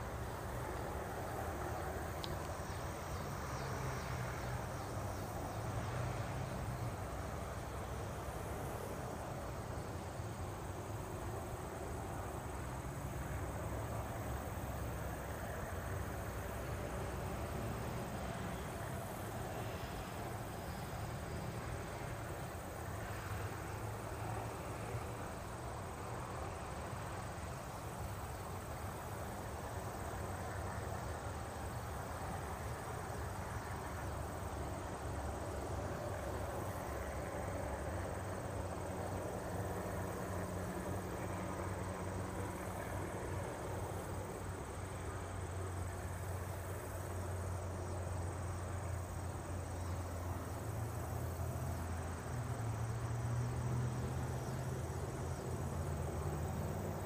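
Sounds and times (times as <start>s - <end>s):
insects chirping: 0.0s - 57.0s.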